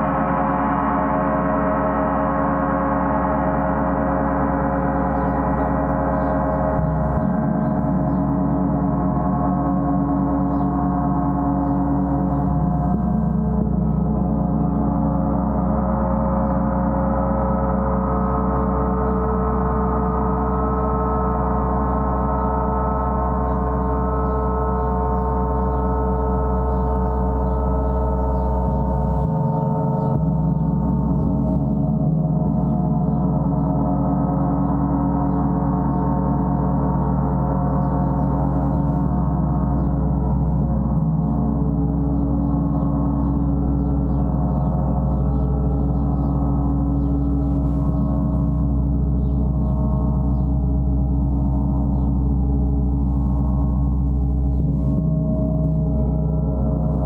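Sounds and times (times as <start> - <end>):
gong drone: 0.0 - 57.0.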